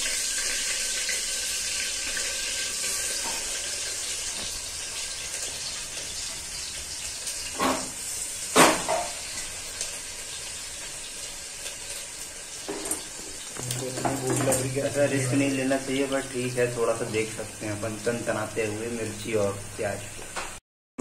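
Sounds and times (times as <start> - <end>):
onion sizzling in hot oil: 0.0 - 20.6.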